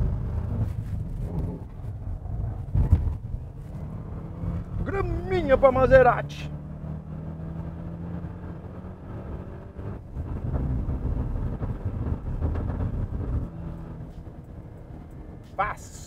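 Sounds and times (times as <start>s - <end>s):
car engine pulling hard: 0.0s - 16.0s
road noise: 0.0s - 16.0s.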